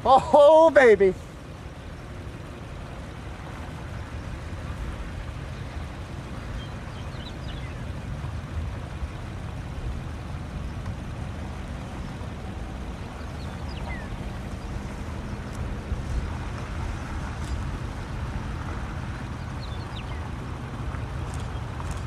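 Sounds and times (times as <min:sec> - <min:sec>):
wind buffeting microphone: 0:00.8 - 0:22.0.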